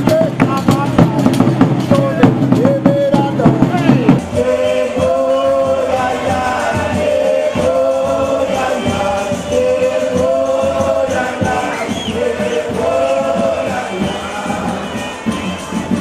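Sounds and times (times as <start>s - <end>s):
group singing folk song: 0.0s - 16.0s
percussion: 0.0s - 16.0s.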